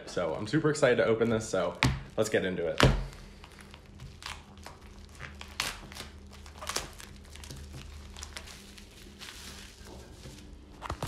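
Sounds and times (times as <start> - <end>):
plastic packaging crinkling: 1.2 - 11.0.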